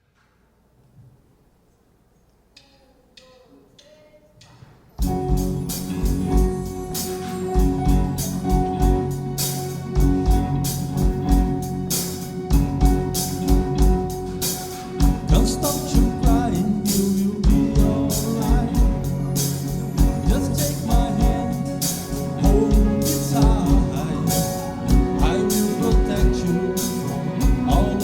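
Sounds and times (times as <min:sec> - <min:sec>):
drum kit with cymbals: 0:04.4 - 0:28.0
bass: 0:05.0 - 0:28.0
electric guitars: 0:05.0 - 0:28.0
keyboard chords: 0:05.0 - 0:28.0
wavering melody line: 0:05.1 - 0:28.0.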